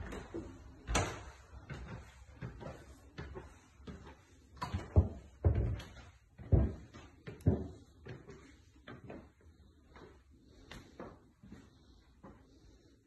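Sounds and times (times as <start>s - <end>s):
footsteps on wooden stairs: 0.0s - 11.6s
soft footsteps on carpet: 0.0s - 13.0s.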